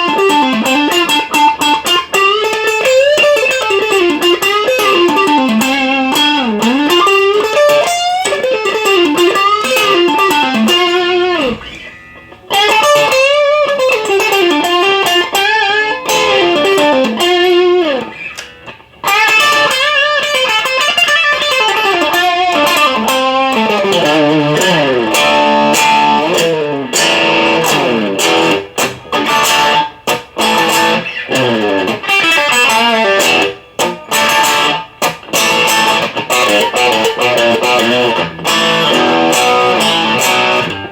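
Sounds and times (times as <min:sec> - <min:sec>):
electric guitar lead runs: 0:00.0 - 0:40.9.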